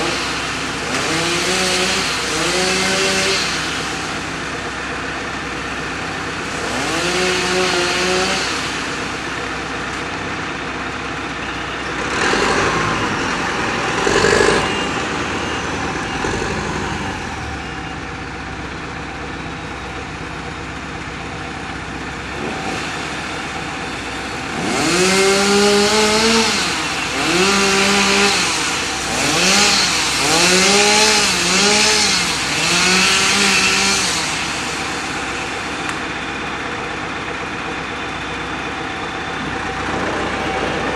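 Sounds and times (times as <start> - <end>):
engine revving: 0.0 - 17.9, 22.2 - 37.2, 38.6 - 40.9.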